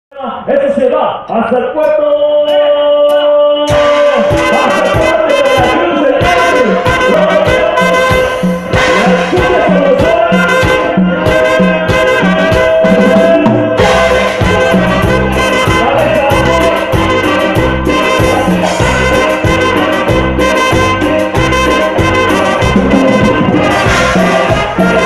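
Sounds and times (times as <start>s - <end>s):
bass and drum beat: 1.8s - 25.0s
trumpets playing melody: 3.0s - 25.0s.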